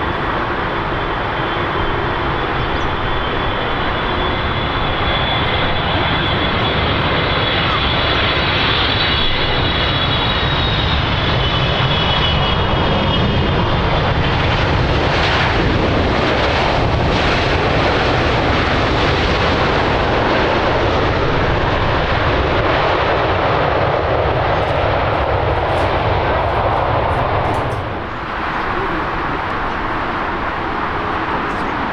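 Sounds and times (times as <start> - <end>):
high engine whine: 0.0 - 31.9
jet airliner engine roar: 0.0 - 31.9.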